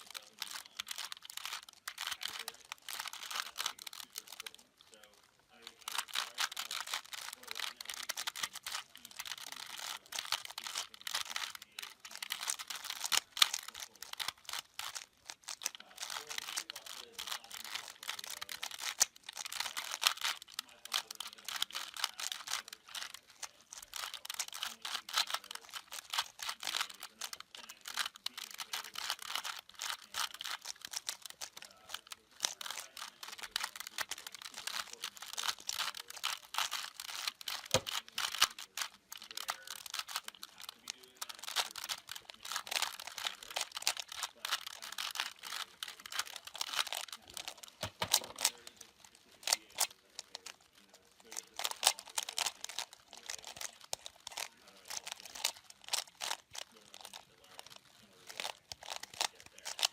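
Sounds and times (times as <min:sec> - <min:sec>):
puzzle cube clicking: 0:00.0 - 0:59.9.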